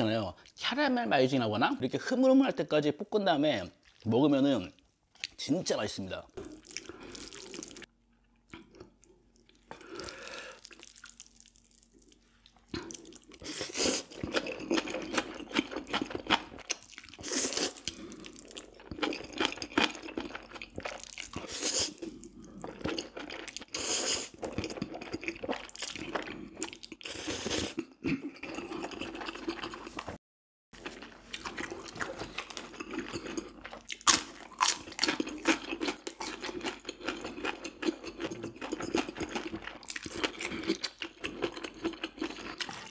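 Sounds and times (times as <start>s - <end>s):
wet chewing with crunchy bites: 6.4s - 30.2s, 30.8s - 42.9s.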